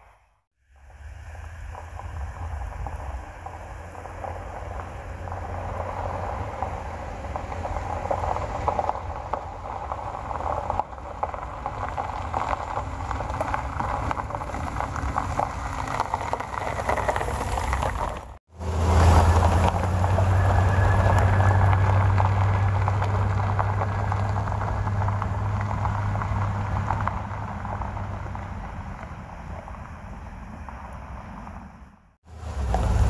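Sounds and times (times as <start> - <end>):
truck engine and road rumble: 0.0 - 33.0
tyres crackling over gravel: 0.8 - 31.1, 32.3 - 33.0.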